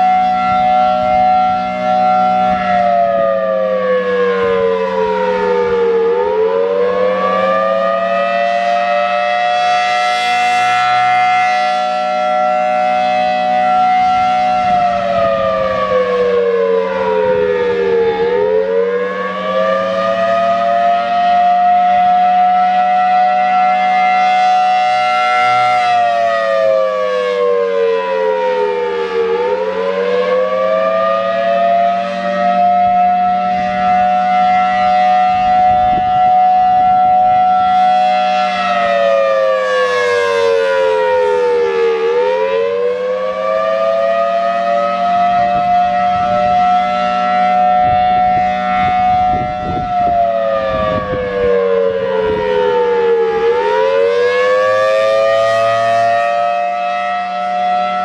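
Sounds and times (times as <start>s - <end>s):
warning siren wailing: 0.0s - 58.0s.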